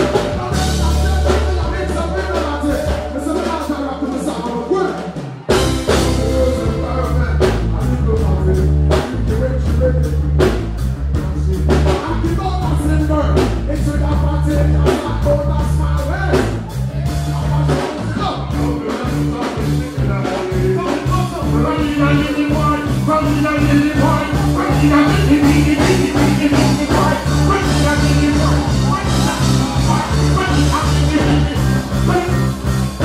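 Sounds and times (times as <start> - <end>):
live band dancehall beat: 0.0 - 33.0
person singing through pa: 0.0 - 33.0.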